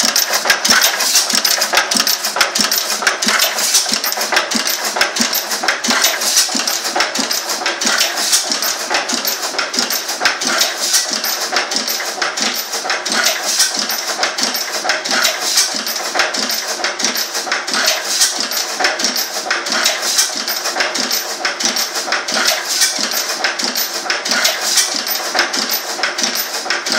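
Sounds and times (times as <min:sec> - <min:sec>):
stationary engine clattering: 0:00.0 - 0:26.9.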